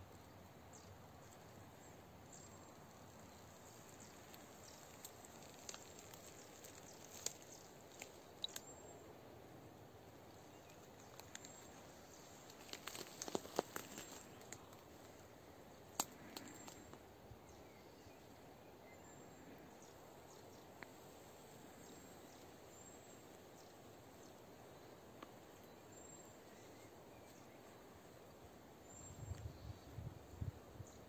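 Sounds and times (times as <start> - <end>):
faint outdoor hiss: 0.0 - 31.0.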